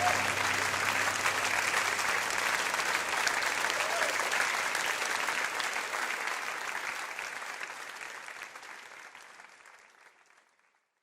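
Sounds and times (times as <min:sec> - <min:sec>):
applause: 0:00.0 - 0:11.0.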